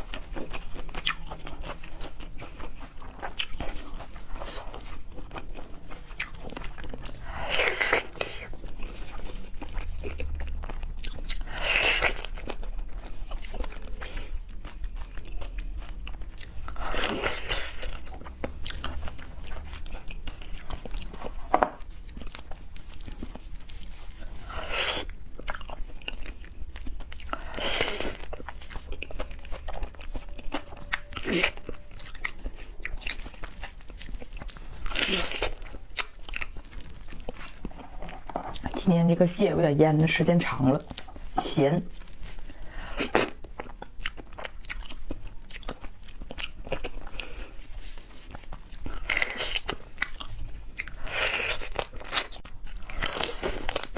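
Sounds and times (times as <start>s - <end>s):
chewing and biting: 0.0s - 38.9s, 40.5s - 53.9s.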